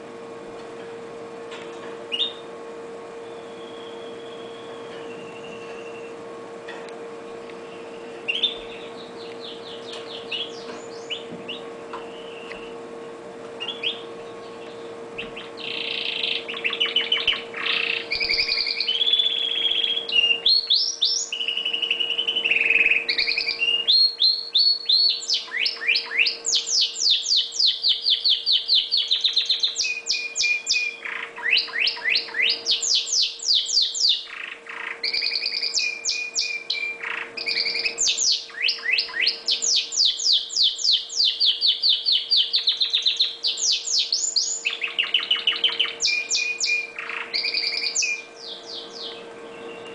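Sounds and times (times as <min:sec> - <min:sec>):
canary singing trills: 0:02.1 - 0:06.3, 0:07.3 - 0:49.9.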